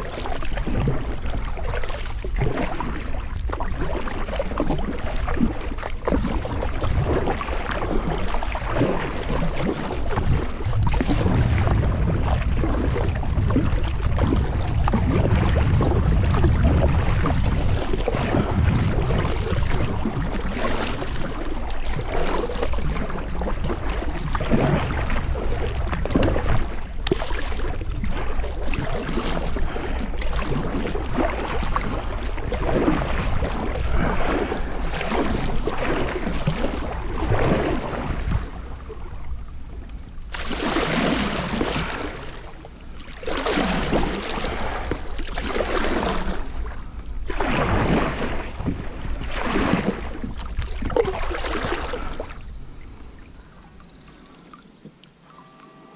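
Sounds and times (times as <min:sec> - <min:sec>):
wind rumbling on microphone: 0:00.0 - 0:54.4
paddle splashing in water: 0:00.0 - 0:55.9.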